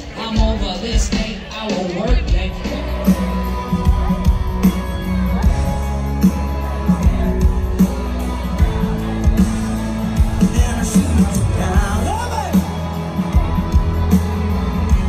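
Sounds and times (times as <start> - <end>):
live country rock band: 0.0 - 15.0.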